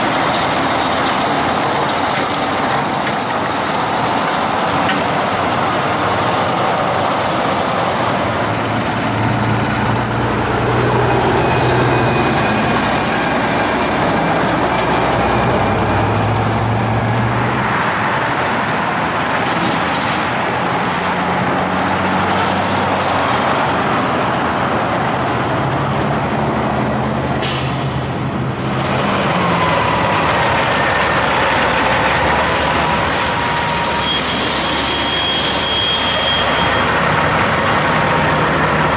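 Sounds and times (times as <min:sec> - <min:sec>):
diesel engine drone: 0:00.0 - 0:38.9
tyre and road noise: 0:00.0 - 0:38.9.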